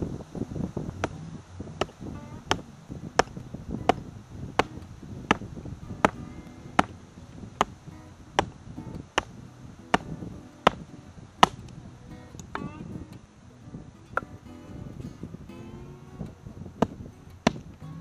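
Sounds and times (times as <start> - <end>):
light guitar music: 0.0 - 18.0.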